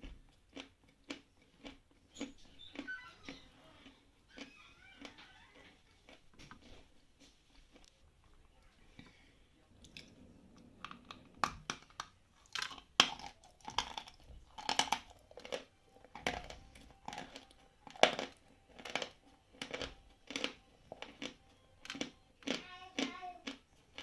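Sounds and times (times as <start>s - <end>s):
person chewing chalk crunching: 0.0s - 8.0s, 11.8s - 24.0s.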